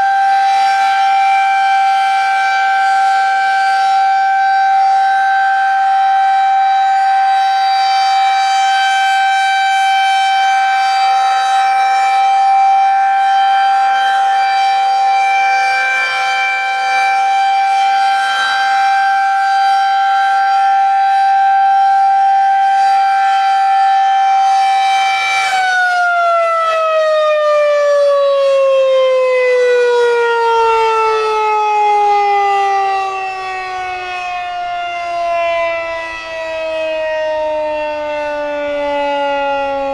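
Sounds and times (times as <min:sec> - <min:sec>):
warning siren tone: 0:00.0 - 0:39.9.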